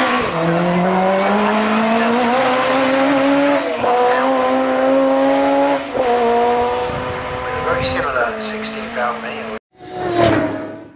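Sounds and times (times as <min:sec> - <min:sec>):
racing car engine revving: 0:00.0 - 0:10.9.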